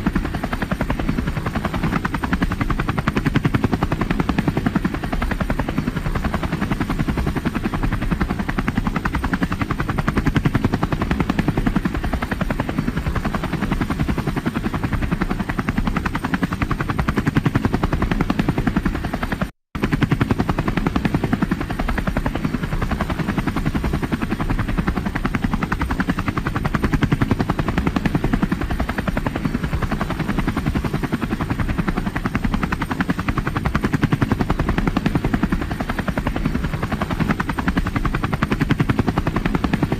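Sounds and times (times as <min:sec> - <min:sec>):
helicopter rotor blades chopping: 0:00.0 - 0:39.9.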